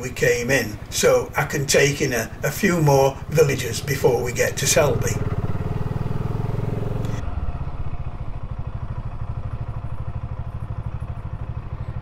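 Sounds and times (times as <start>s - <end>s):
single-cylinder motorcycle engine: 0.0s - 12.0s.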